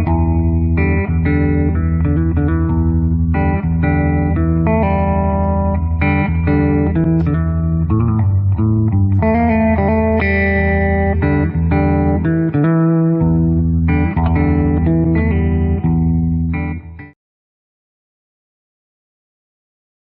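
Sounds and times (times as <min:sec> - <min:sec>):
guitar instrumental music with bass: 0:00.0 - 0:17.2.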